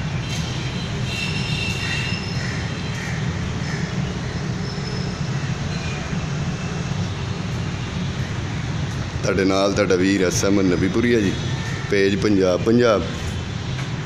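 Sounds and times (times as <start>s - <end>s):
birds calling: 0.0s - 13.4s.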